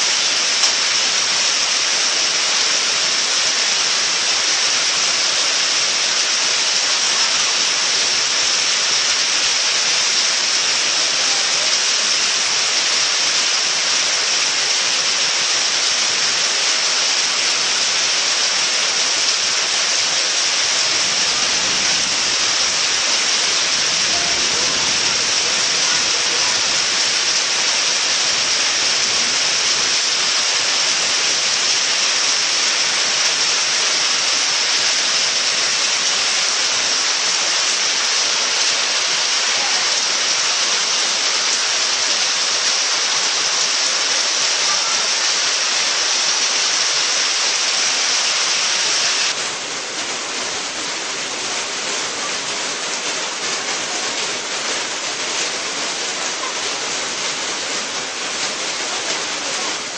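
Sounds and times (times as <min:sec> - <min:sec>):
loud steady hiss: 0:00.0 - 0:59.9.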